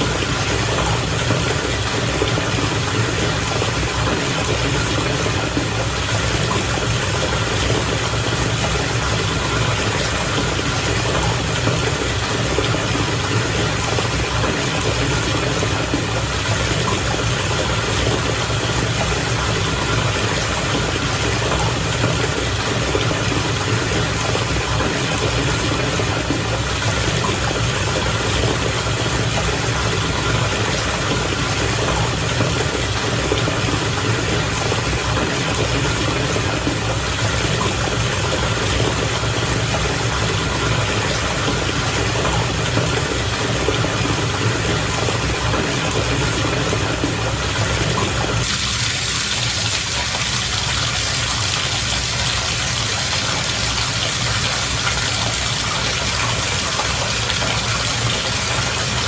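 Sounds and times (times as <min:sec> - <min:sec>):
bath water bubbling: 0:00.0 - 0:59.0.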